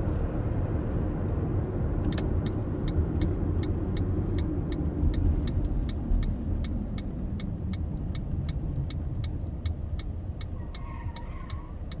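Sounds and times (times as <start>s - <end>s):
car engine and road rumble: 0.0s - 12.0s
turn signal ticking: 0.8s - 12.0s.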